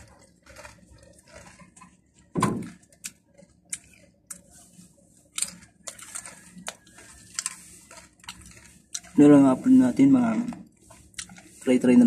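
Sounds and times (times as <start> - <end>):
person crunching chips: 0.0 - 12.0.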